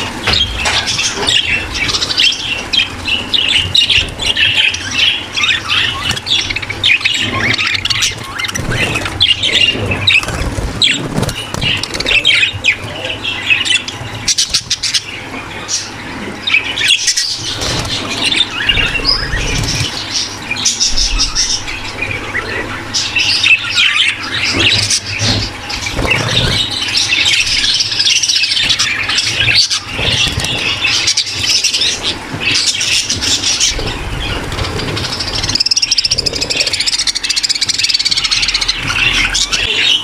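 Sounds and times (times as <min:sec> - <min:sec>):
budgerigar flock chattering: 0:00.0 - 0:40.0
steady low hum: 0:00.0 - 0:40.0.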